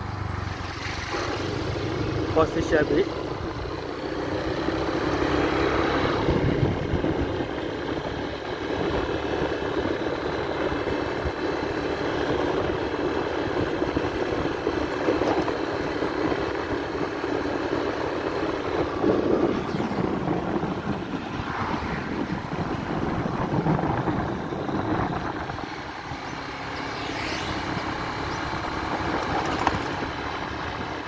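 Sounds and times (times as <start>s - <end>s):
road and wind noise: 0.0s - 31.0s
scooter engine running: 0.0s - 31.0s.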